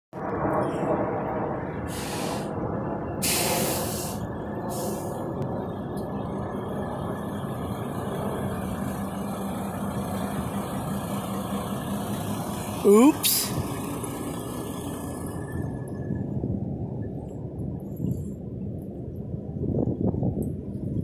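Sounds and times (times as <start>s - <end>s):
heavy truck machinery drone: 0.2s - 18.5s.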